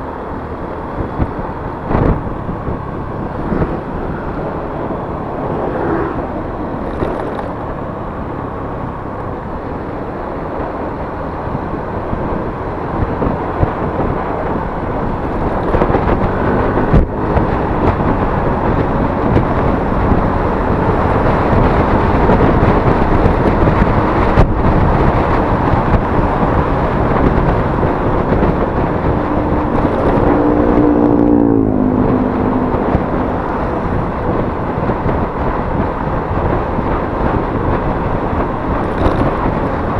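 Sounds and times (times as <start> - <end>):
scooter engine running: 0.0 - 39.9
wind and road noise: 0.0 - 39.9.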